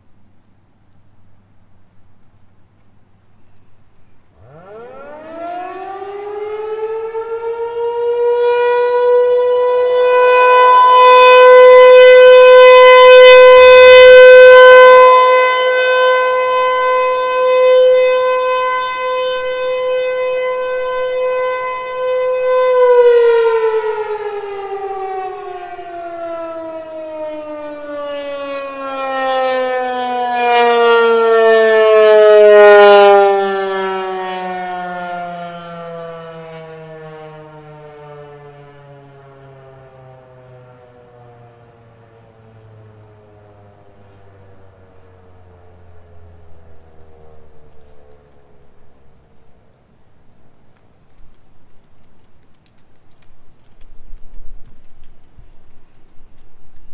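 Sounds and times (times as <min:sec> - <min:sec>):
outdoor warning siren: 0:03.1 - 0:56.9.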